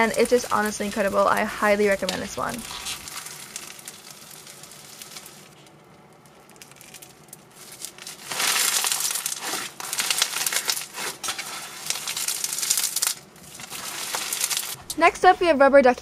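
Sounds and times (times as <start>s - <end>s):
slime crackling and crunching: 0.0s - 14.8s.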